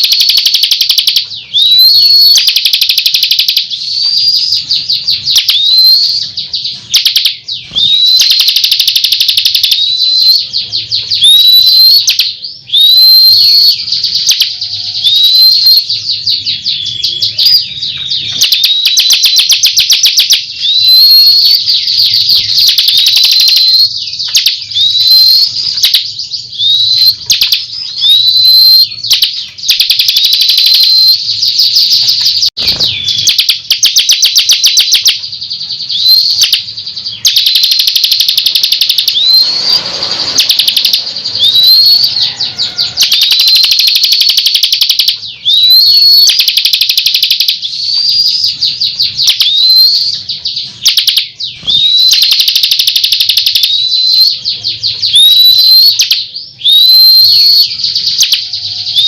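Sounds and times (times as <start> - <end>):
bird singing rattling trills: 0.0 - 59.0.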